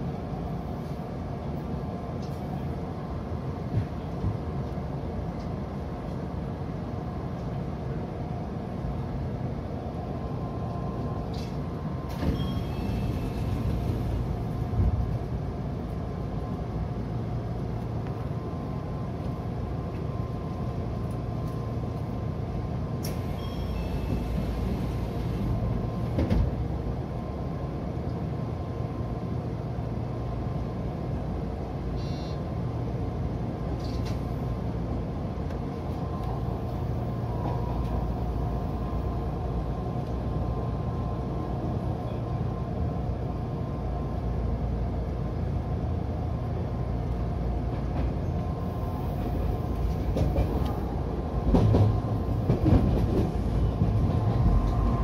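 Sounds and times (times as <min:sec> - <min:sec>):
train equipment low hum: 0:00.0 - 0:55.0.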